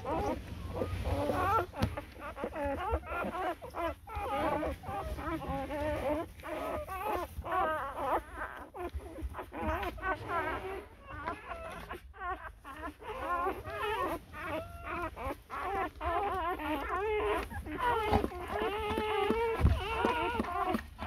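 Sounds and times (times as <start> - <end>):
dogs whimpering and whining: 0.0 - 21.0.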